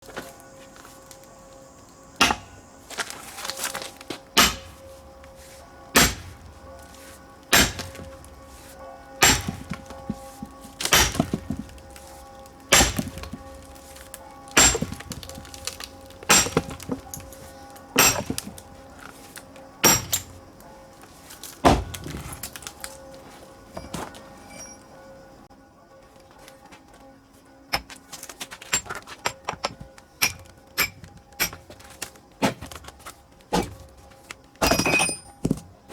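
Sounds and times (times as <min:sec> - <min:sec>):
background music: 0:00.0 - 0:35.9
axe splitting firewood: 0:01.8 - 0:20.4, 0:21.0 - 0:24.8, 0:27.7 - 0:35.9.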